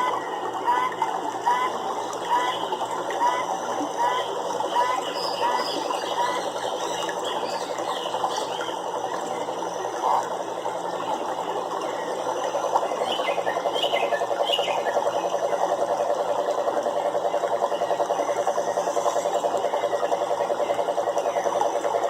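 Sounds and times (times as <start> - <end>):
frogs trilling in chorus: 1.5 - 10.4, 12.0 - 22.0.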